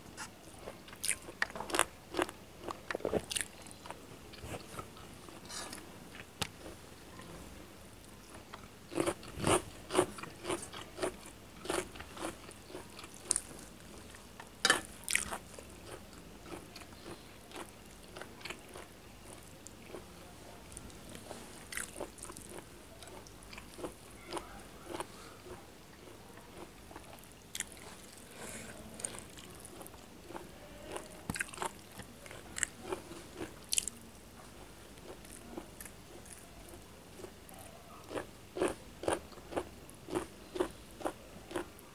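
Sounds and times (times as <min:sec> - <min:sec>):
chewing food: 0:00.2 - 0:07.3, 0:08.2 - 0:41.8.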